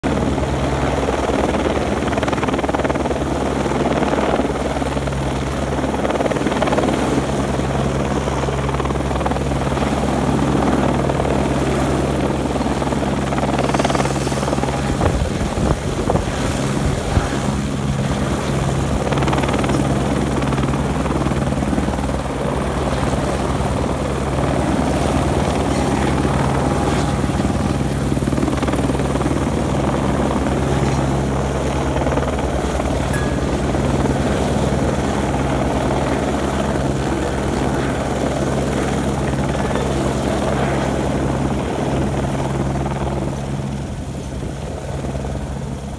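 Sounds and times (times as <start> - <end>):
helicopter rotor chopping: 0.0 - 45.9.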